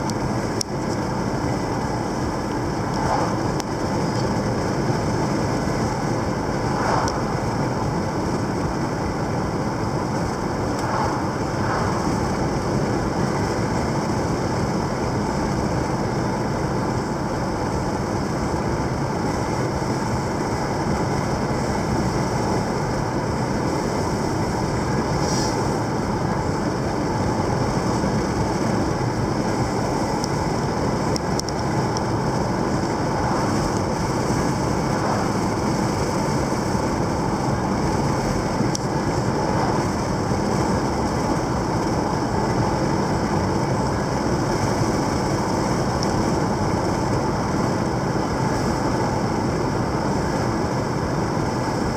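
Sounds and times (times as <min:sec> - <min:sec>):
car engine cruising: 0:00.0 - 0:51.9
tyres on asphalt: 0:00.0 - 0:51.9.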